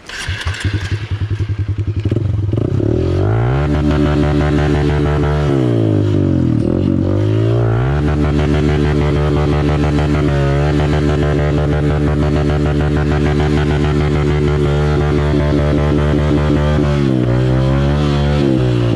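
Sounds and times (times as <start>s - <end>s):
dirt bike engine starting: 0.0s - 18.9s.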